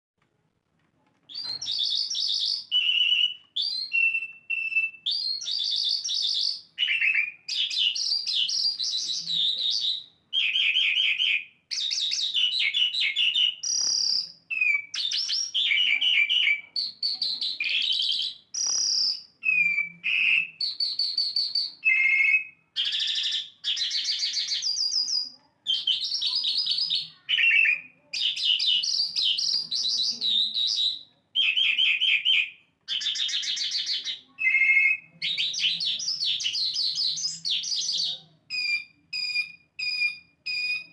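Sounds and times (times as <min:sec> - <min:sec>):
lark singing: 0:01.3 - 0:40.9.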